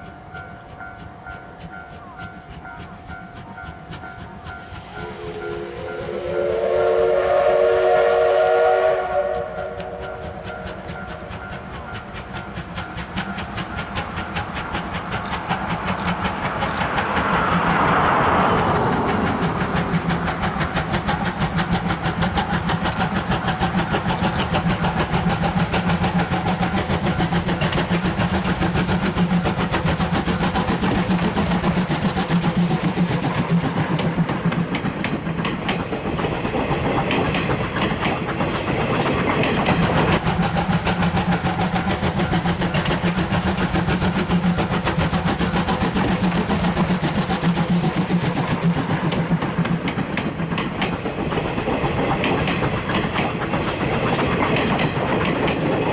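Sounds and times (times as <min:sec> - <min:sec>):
train locomotive running: 0:00.0 - 0:55.9.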